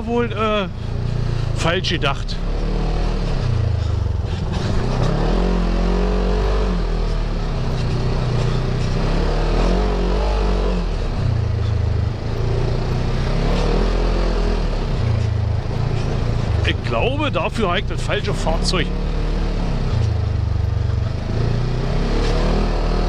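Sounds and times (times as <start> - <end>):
vehicle engine revving under load: 0.0 - 23.0.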